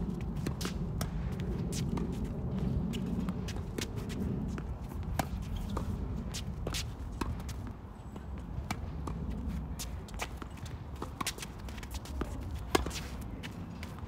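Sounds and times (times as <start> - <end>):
sneakers shuffling on court: 0.0 - 14.0
steady low rumble: 0.0 - 14.0
tennis balls bouncing on hard court: 0.2 - 14.0.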